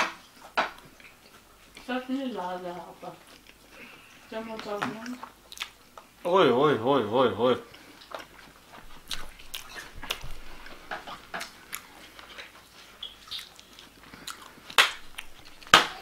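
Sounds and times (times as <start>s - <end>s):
man chewing food: 0.0s - 6.2s, 7.6s - 16.0s.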